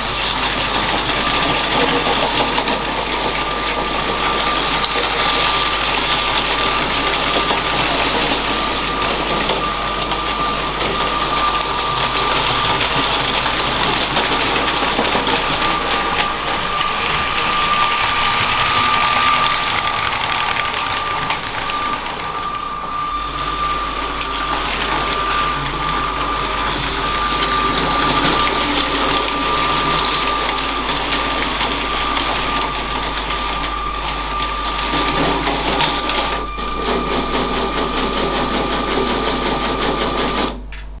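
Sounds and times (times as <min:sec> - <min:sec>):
toy train motor whirring: 0:00.0 - 0:40.6
wheels rattling over plastic track: 0:00.0 - 0:40.6.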